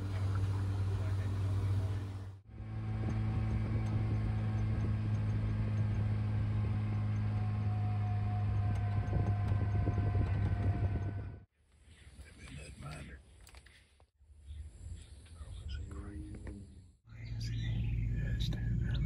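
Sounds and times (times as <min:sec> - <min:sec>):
vehicle engine humming: 0:00.0 - 0:11.5, 0:15.2 - 0:19.0.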